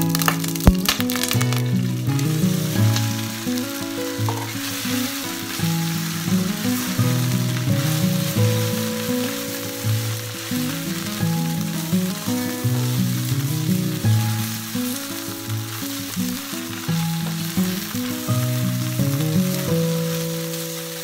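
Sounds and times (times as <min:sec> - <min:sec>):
food sizzling in oil: 0:00.0 - 0:21.0
instrumental music: 0:00.0 - 0:21.0.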